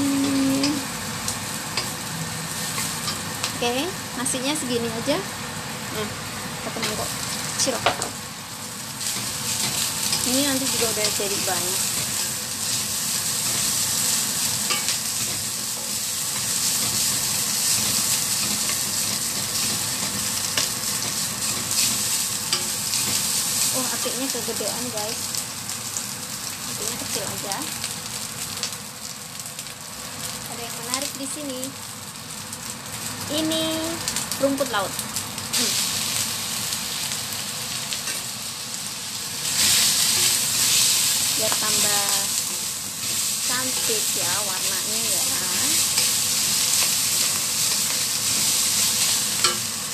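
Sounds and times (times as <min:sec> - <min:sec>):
rice sizzling in a wok: 0:00.0 - 0:49.9.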